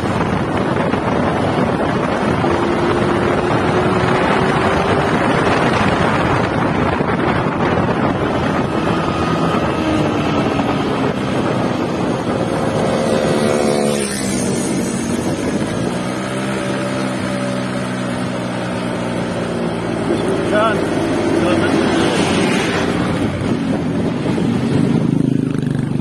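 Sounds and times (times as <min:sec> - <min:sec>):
two-stroke motorcycle engine: 0:00.0 - 0:26.0
wind buffeting microphone: 0:00.0 - 0:26.0.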